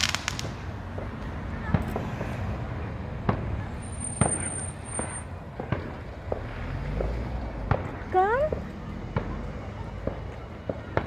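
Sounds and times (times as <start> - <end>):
fireworks bangs: 0.0 - 9.4.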